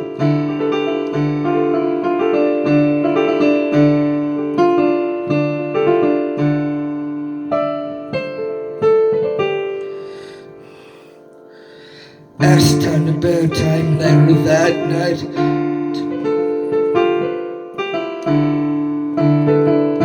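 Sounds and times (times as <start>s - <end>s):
keyboard playing piano chords: 0.0s - 20.0s.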